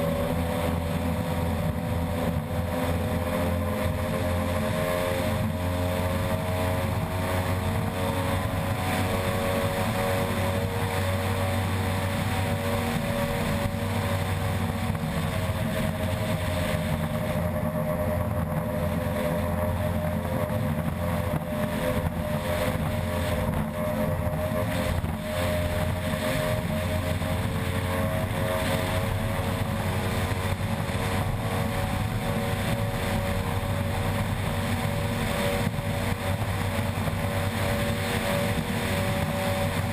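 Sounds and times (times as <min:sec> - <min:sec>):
boat engine running hard: 0:00.0 - 0:39.9.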